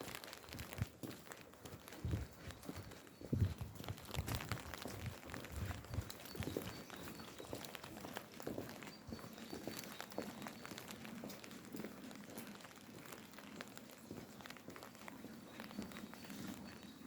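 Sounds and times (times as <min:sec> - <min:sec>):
footsteps on wet pavement: 0:00.0 - 0:17.0
light rain pattering: 0:00.0 - 0:17.0.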